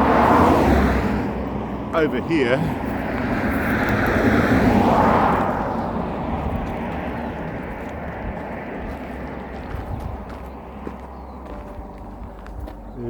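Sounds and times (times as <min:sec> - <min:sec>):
road vehicle driving past: 0:00.0 - 0:13.0.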